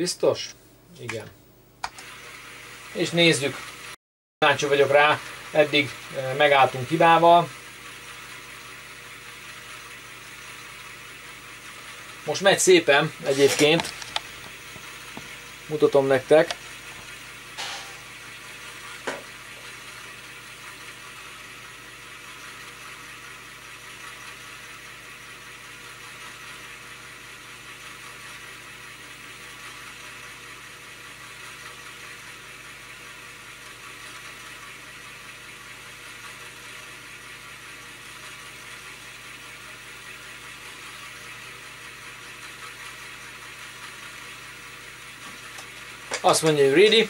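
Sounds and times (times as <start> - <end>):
floppy disk drive running: 1.0 - 47.0.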